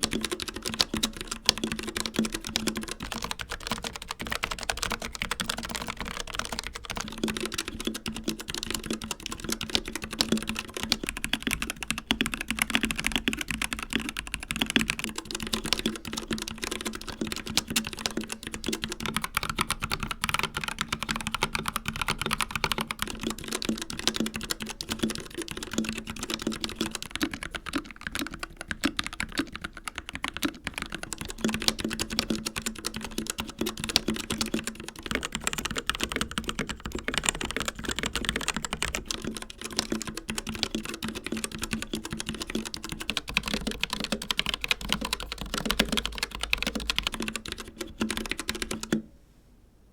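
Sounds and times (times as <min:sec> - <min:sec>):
fast typing on mechanical keyboard: 0:00.0 - 0:49.0.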